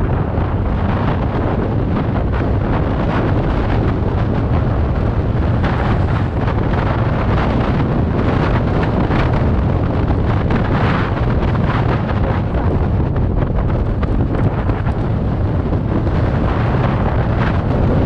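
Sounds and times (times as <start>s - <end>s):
road and vehicle noise: 0.0s - 18.0s
wind buffeting microphone: 0.0s - 18.0s.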